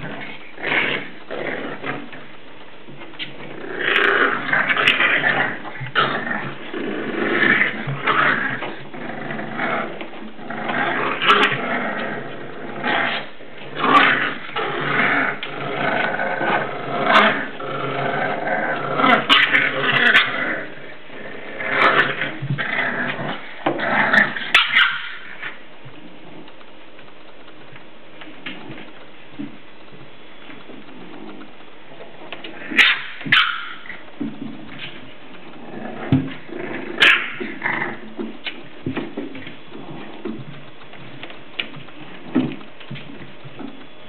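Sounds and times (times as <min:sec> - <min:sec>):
puppies growling: 0:00.0 - 0:44.0.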